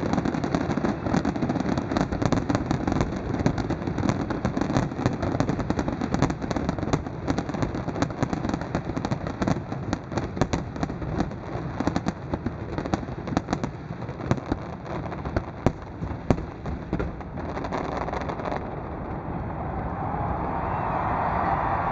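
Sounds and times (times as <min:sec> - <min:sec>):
fireworks bangs and crackling: 0:00.0 - 0:20.2.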